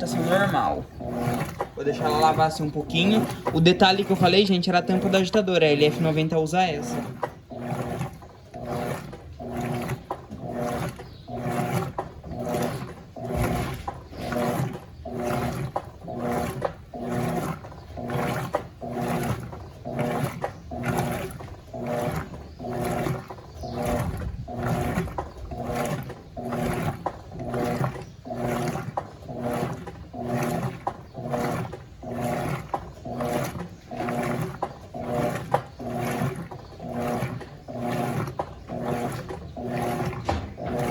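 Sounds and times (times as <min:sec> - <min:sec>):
agitator swishing water: 0:00.0 - 0:40.9
washing machine motor hum: 0:00.0 - 0:40.9.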